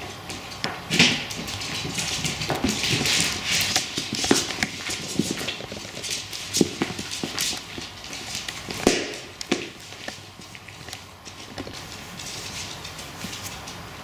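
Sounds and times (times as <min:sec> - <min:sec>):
claws clicking on wooden floor: 0:00.1 - 0:13.9.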